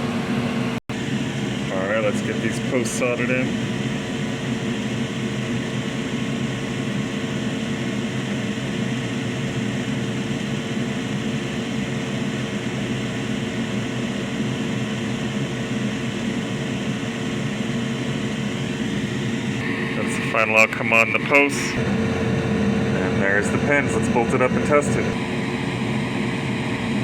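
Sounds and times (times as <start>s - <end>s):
fan whirring: 0.0s - 27.0s.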